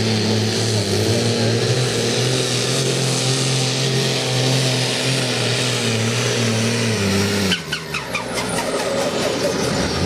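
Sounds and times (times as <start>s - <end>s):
tractor diesel engine running hard: 0.0s - 10.0s.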